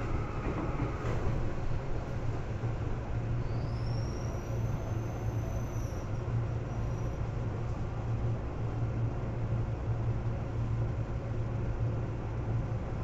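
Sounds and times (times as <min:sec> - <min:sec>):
train running low rumble: 0:00.0 - 0:13.0.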